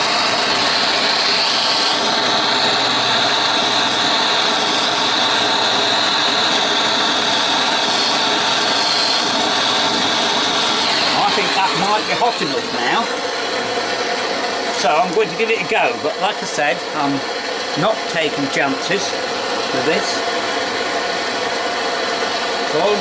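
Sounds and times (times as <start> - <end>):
blowtorch flame roaring: 0.0 - 23.0.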